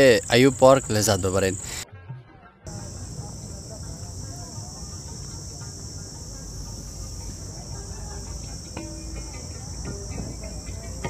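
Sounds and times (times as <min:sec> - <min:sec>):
insect chorus chirring: 0:00.0 - 0:01.8, 0:02.7 - 0:11.0.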